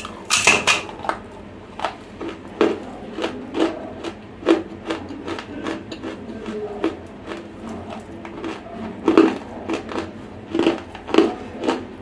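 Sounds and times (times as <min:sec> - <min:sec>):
dry crunching of clay being chewed: 0:00.0 - 0:12.0.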